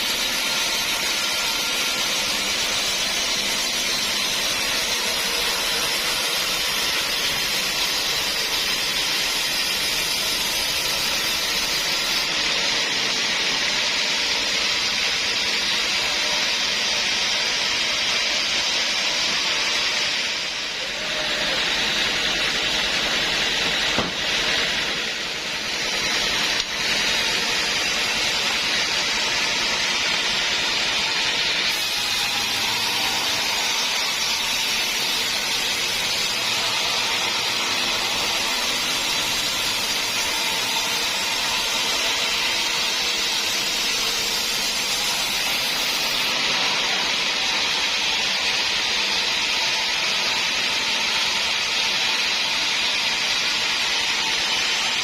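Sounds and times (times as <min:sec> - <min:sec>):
saw blade cutting wood: 0:00.0 - 0:55.0.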